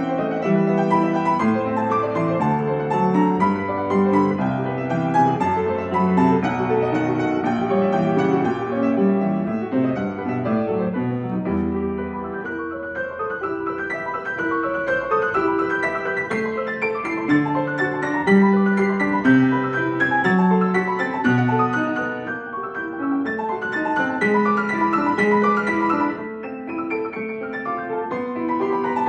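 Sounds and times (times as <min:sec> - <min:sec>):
solo piano playing: 0:00.0 - 0:29.0.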